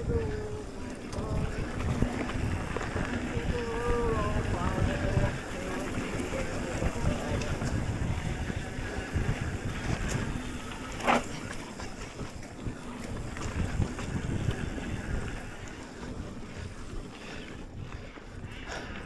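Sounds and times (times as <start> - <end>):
bike rolling rumble and rattle: 0.0 - 19.0
wind buffeting microphone: 0.0 - 19.0.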